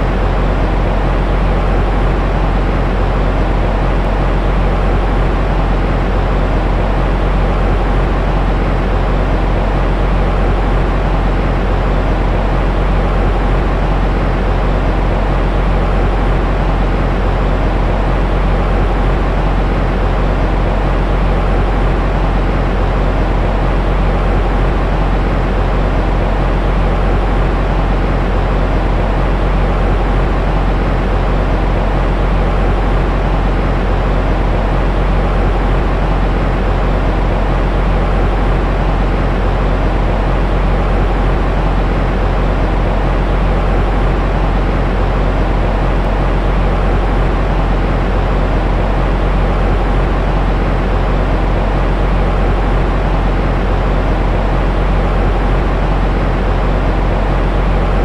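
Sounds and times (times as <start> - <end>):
deep rushing white noise: 0.0 - 58.0.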